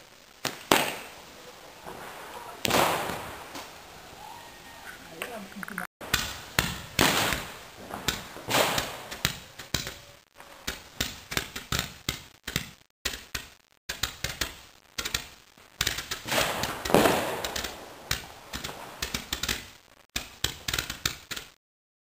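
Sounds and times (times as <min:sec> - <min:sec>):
fireworks popping and banging: 0:00.0 - 0:04.2, 0:05.1 - 0:21.6.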